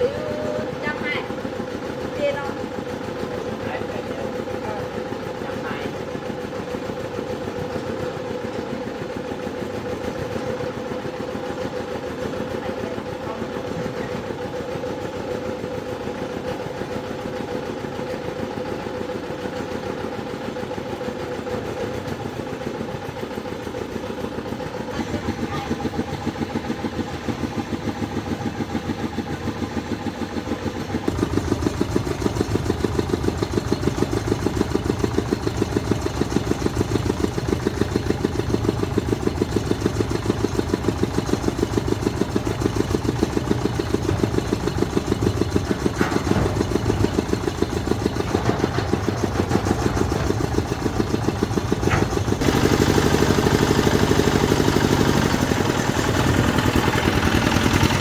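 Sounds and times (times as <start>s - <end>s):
engine running chugging: 0.0s - 58.0s.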